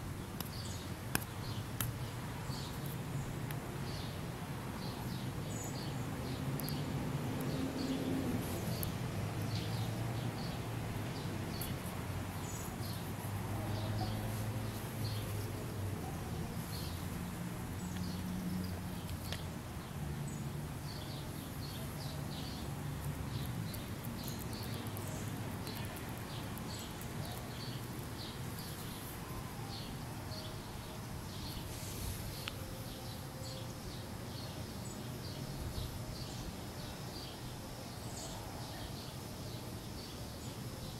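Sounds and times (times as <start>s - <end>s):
small birds chirping: 0.2s - 4.2s, 4.8s - 40.9s.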